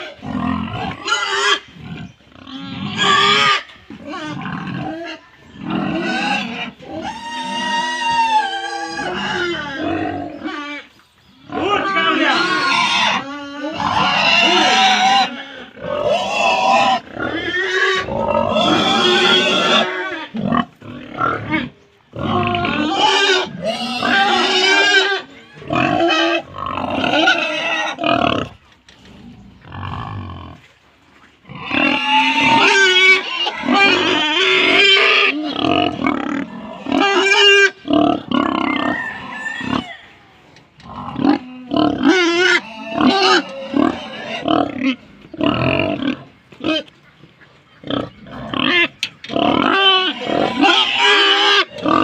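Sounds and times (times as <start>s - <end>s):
pigs squealing and grunting: 0.0s - 30.7s, 31.4s - 52.0s.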